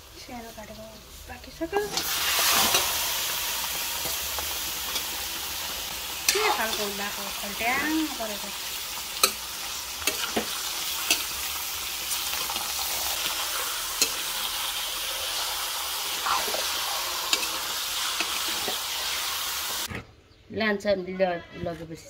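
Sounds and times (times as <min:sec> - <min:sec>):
meat sizzling in a wok: 0:00.0 - 0:19.9.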